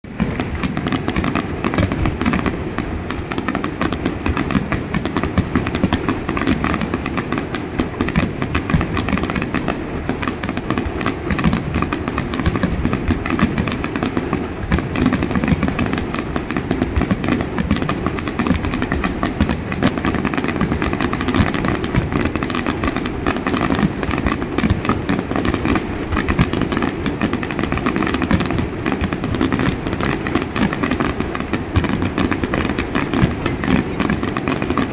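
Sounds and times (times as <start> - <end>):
fireworks exploding and crackling: 0.0 - 34.9.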